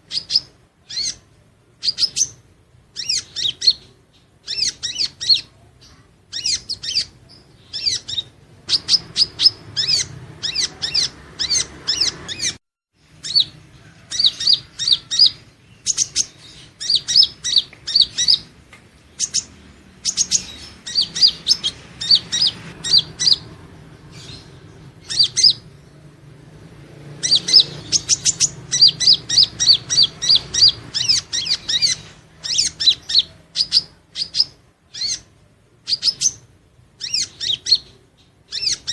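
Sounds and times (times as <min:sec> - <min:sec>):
bird singing high thin chirps: 0:00.0 - 0:01.2, 0:01.8 - 0:26.0, 0:27.2 - 0:38.9.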